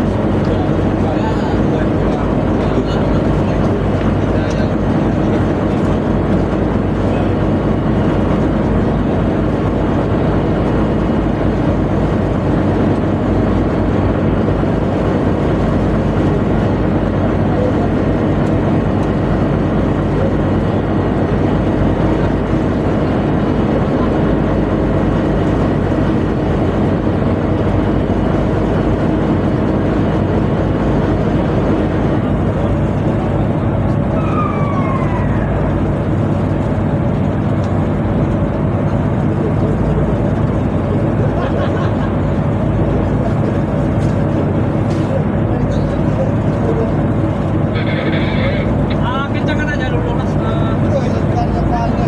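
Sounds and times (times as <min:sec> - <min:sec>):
boat machinery low drone: 0:00.0 - 0:52.0.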